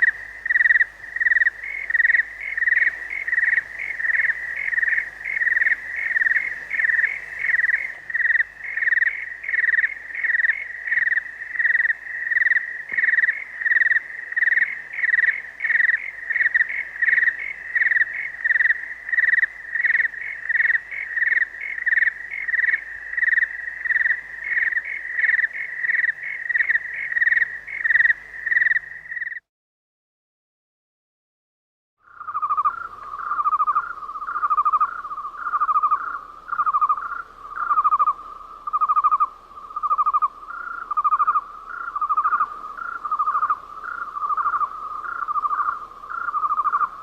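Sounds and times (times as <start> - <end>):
crickets chirping: 0.0 - 29.4, 32.0 - 47.0.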